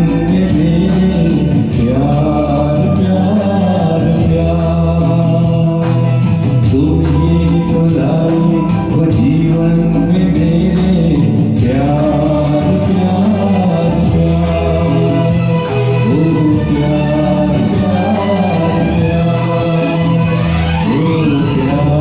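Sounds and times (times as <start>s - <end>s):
karaoke backing track: 0.0s - 22.0s
man singing: 0.0s - 22.0s.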